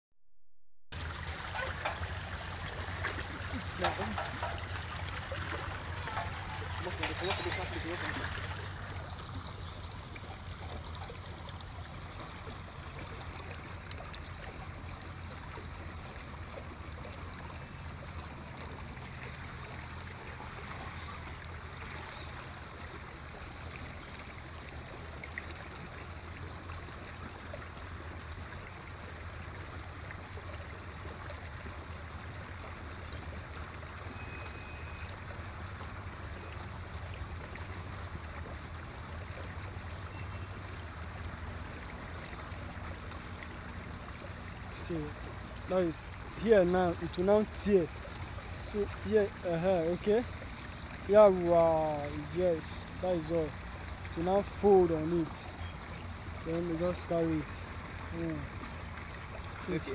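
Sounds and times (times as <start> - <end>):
water flowing in channel: 0.9 - 59.9.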